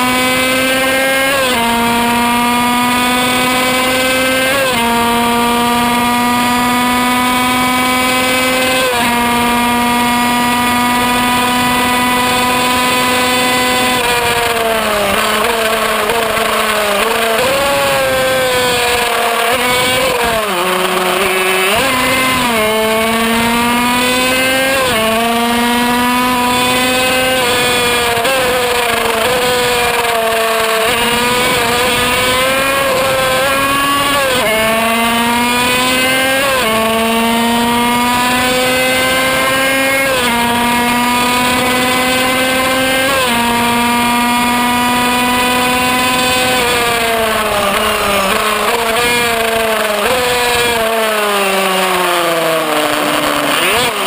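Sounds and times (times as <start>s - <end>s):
two-stroke racing engine revving: 0.0s - 54.0s.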